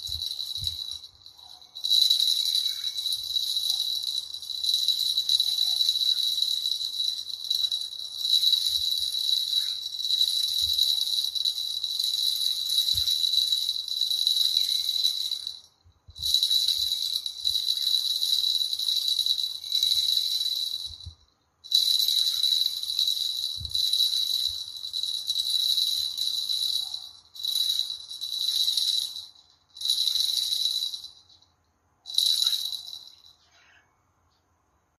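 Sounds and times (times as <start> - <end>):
small bells jingling: 0.0 - 33.8.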